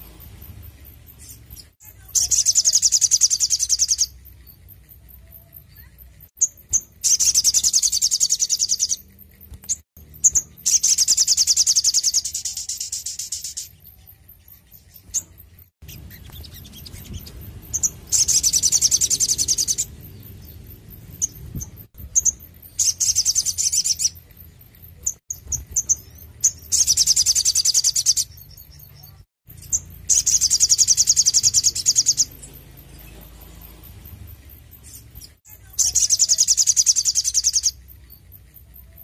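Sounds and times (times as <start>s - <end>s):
sunbird singing rapid high notes: 0.0s - 9.1s, 9.7s - 24.3s, 25.0s - 38.0s.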